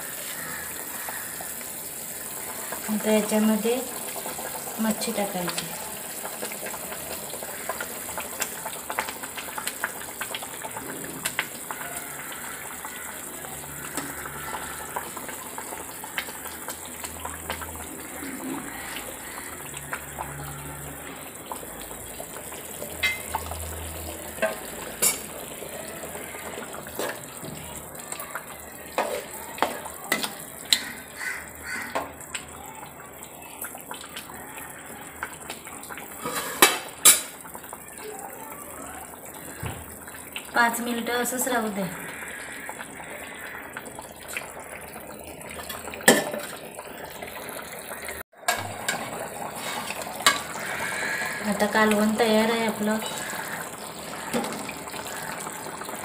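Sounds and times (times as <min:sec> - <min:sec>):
curry bubbling in a pot: 0:00.0 - 0:56.0.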